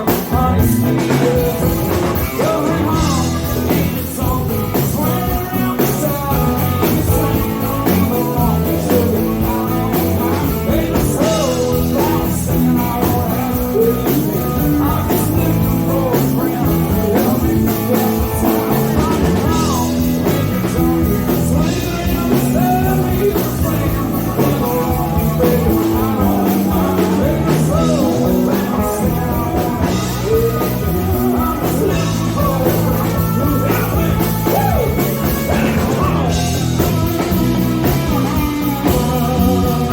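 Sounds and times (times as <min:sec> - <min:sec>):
band playing rock song: 0:00.0 - 0:39.9
person singing: 0:00.0 - 0:39.9.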